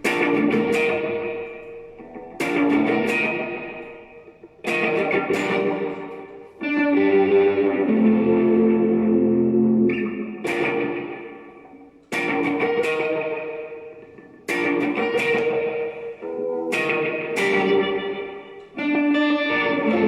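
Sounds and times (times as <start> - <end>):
electric guitar chords ringing: 0.0 - 20.0.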